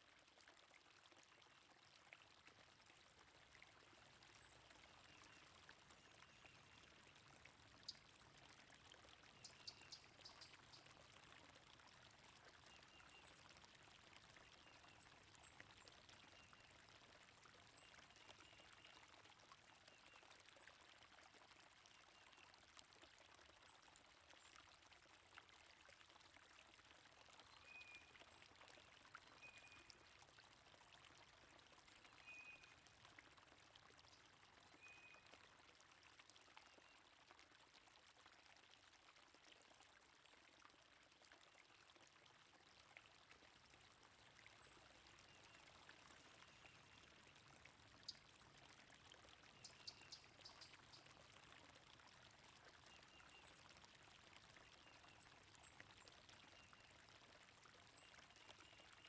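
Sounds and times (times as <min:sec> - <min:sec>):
faint flowing stream: 0:00.0 - 0:59.0.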